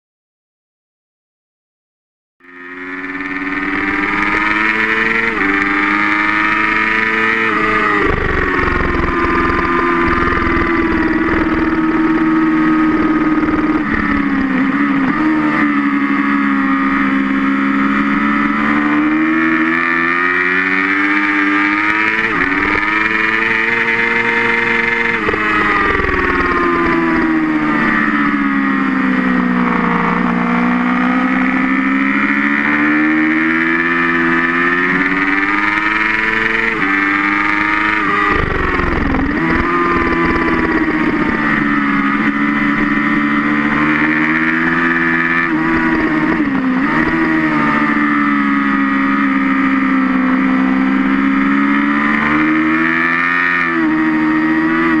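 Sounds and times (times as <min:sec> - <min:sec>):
motorcycle engine at high revs: 0:02.4 - 0:55.0.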